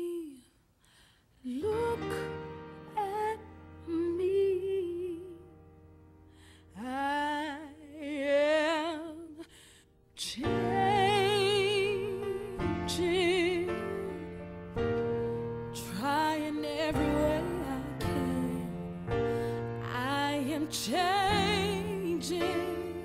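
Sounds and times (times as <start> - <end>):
woman singing a slow ballad: 0.0 - 0.6, 1.4 - 5.7, 6.6 - 9.6, 10.2 - 15.0, 15.6 - 23.0.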